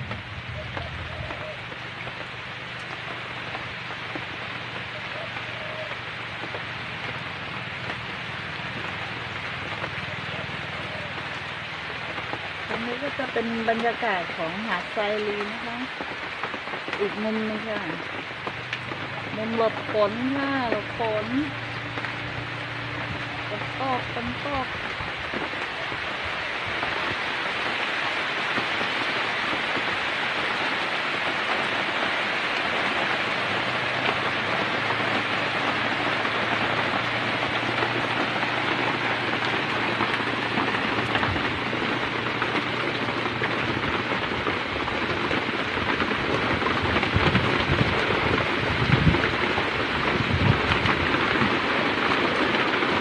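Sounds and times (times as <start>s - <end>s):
heavy rain pouring: 0.0s - 53.0s
low rumbles: 0.0s - 53.0s.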